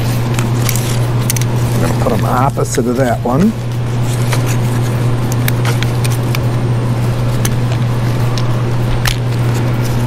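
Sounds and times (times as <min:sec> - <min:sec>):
loud low hum: 0:00.0 - 0:10.0.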